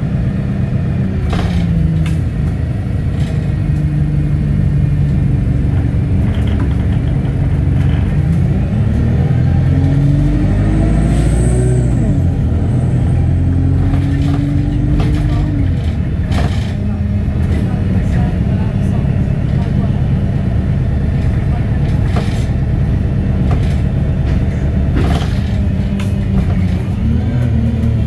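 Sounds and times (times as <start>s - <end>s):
bus engine running: 0.0s - 28.0s
road rumble: 0.0s - 28.0s.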